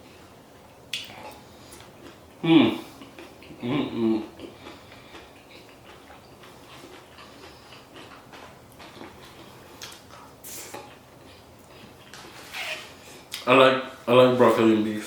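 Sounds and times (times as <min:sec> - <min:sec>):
person chewing: 0:00.6 - 0:13.4.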